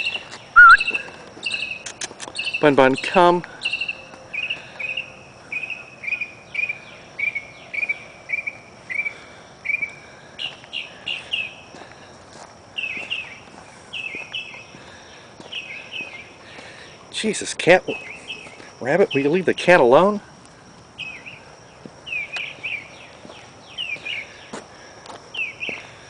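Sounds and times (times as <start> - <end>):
bird chirping: 0.0 - 11.7, 12.8 - 17.0, 17.9 - 19.6, 21.0 - 24.5, 25.3 - 25.9
high insect drone: 0.0 - 26.0.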